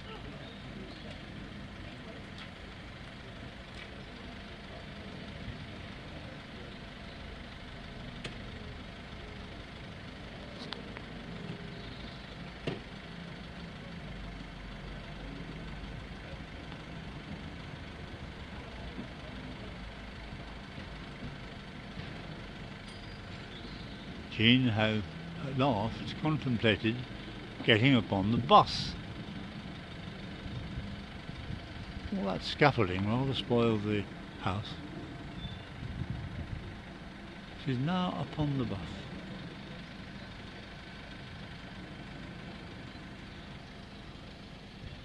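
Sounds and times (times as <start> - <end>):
minibus engine idling: 0.0 - 45.0.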